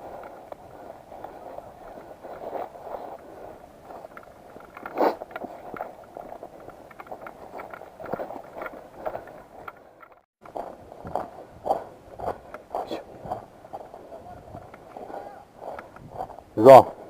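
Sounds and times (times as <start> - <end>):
footsteps: 0.0 - 17.0
rustling: 0.0 - 17.0.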